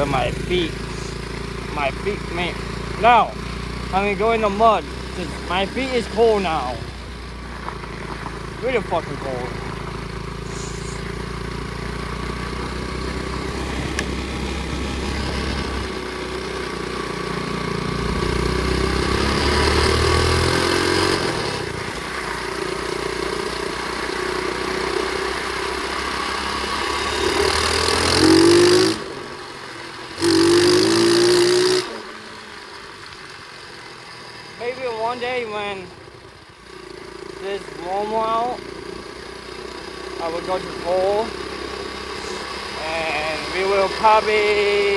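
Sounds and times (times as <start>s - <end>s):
pit bike engine revving: 0.0s - 32.9s, 33.6s - 44.9s.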